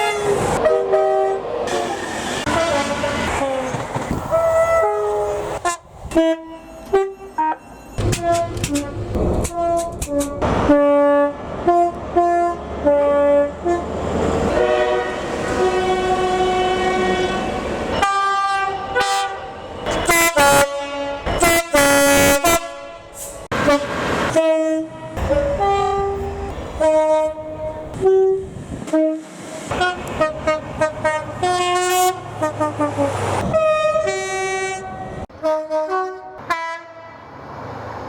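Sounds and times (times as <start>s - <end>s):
locomotive horn playing a tune: 0.0s - 37.2s
moving train noise: 0.0s - 38.0s.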